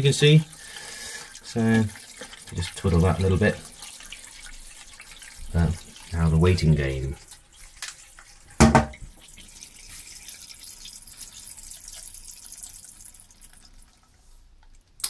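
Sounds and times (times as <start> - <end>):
water hissing into toilet cistern: 0.0 - 14.2.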